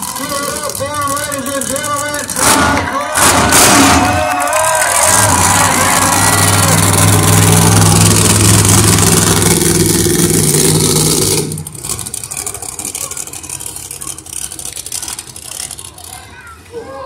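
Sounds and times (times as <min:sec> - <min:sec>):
crowd: 0:00.0 - 0:17.0
faint distant engines: 0:00.0 - 0:17.0
monster truck engine: 0:00.0 - 0:17.0.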